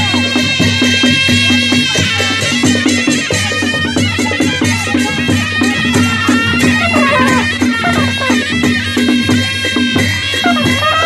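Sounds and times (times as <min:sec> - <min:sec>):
drum strokes: 0:00.0 - 0:11.0
nasal double-reed melody: 0:01.0 - 0:10.0.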